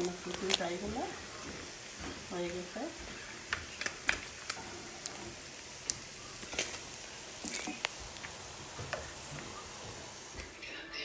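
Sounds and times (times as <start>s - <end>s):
chicken sizzling in oil: 0.0s - 10.6s
oil popping and crackling: 0.0s - 10.6s.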